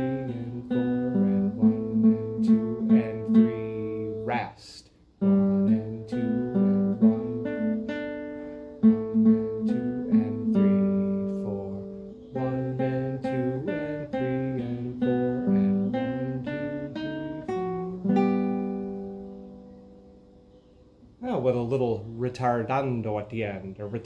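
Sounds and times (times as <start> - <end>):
classical guitar melody: 0.0 - 4.5, 5.2 - 20.9.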